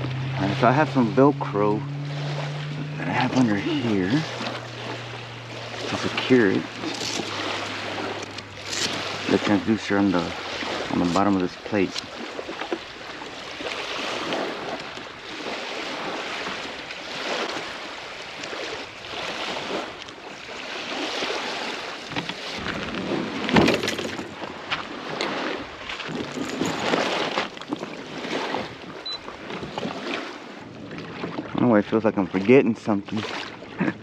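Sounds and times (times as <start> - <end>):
small waves lapping: 0.0 - 34.0.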